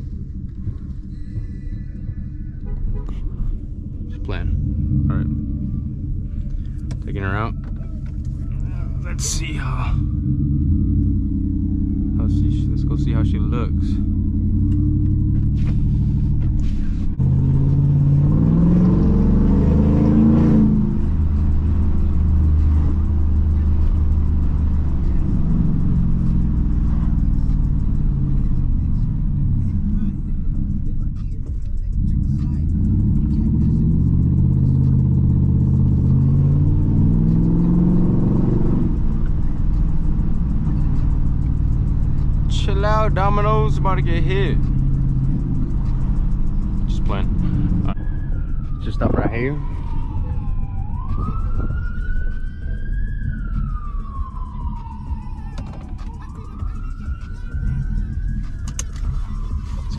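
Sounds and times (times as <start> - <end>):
road rumble: 0.0 - 59.9
truck engine revving: 0.0 - 59.9.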